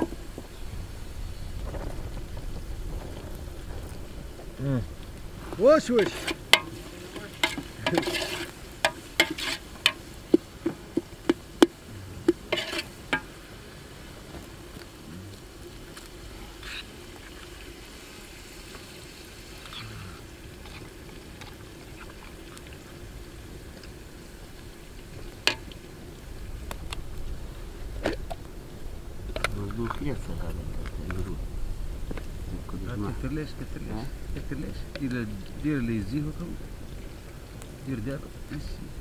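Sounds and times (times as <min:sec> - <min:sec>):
fire crackling and popping: 0:00.0 - 0:39.0
fire hissing: 0:00.0 - 0:39.0.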